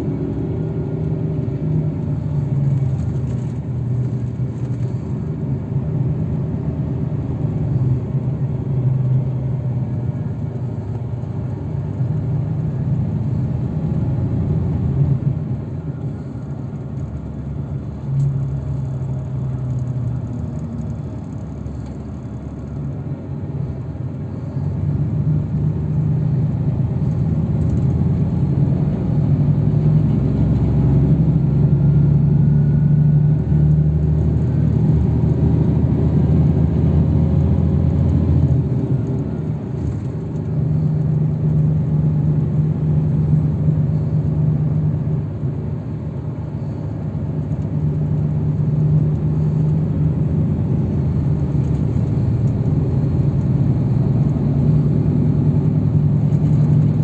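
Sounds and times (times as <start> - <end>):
vehicle engine and tyre rumble: 0.0 - 57.0.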